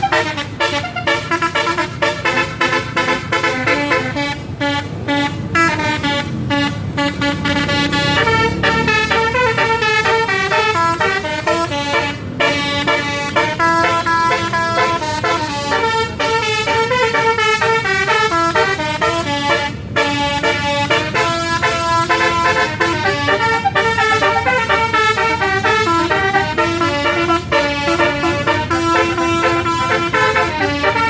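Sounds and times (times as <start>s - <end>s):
multi-tone musical air horn: 0.0s - 31.0s.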